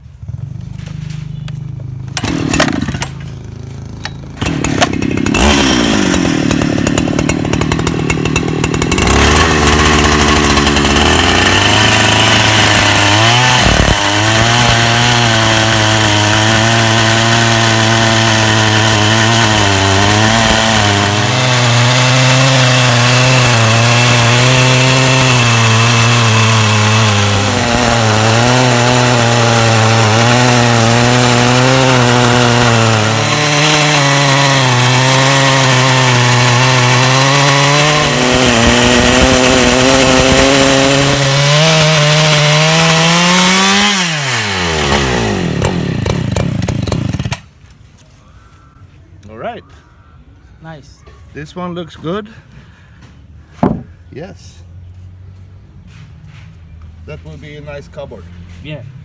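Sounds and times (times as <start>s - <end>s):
chainsaw cutting wood: 0.2s - 47.6s.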